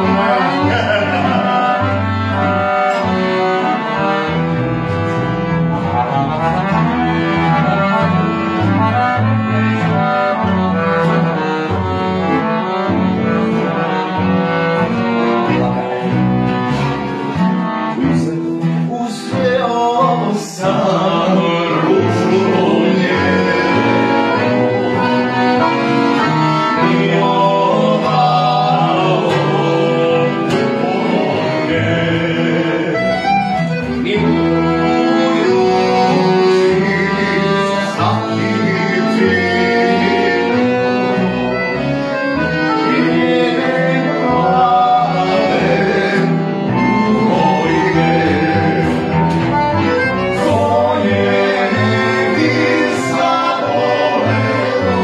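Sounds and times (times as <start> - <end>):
accordions playing tune: 0.0 - 55.0
bass: 0.0 - 55.0
bowed viola: 0.0 - 55.0.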